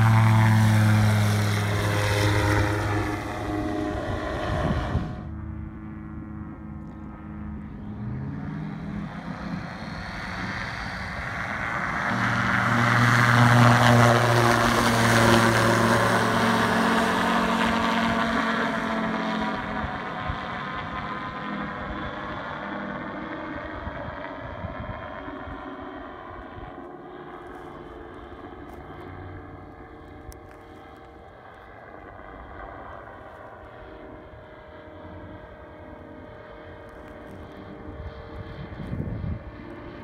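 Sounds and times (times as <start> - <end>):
propeller plane droning: 0.0 - 40.0.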